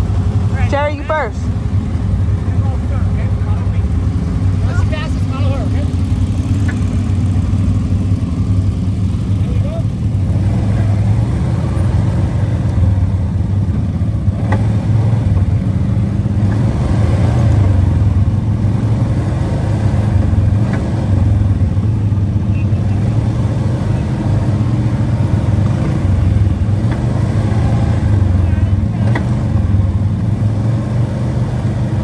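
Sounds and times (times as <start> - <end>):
atv engine droning: 0.0 - 32.0.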